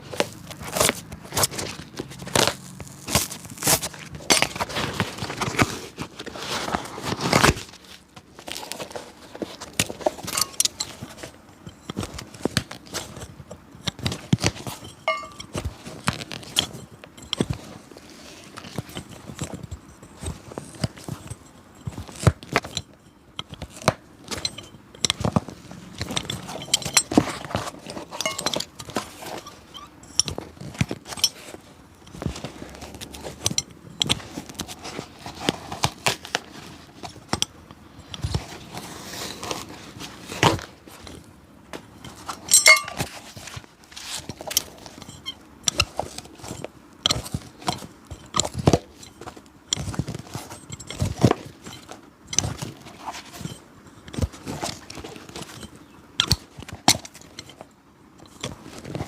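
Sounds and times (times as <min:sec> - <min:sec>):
hand tools clicking and scraping leather: 0:00.0 - 0:59.0.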